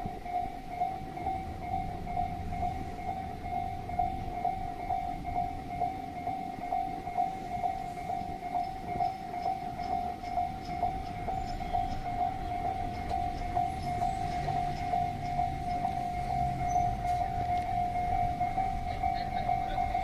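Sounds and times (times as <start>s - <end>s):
level crossing electronic bell: 0.0s - 20.0s
low train rumble: 0.0s - 20.0s.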